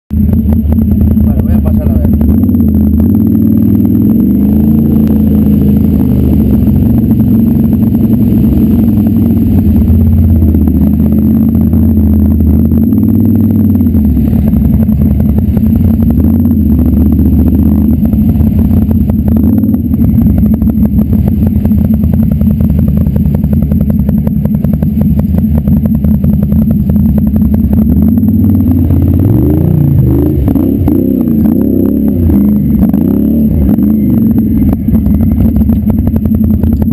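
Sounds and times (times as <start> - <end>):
off-road engine revving: 0.1 - 36.9.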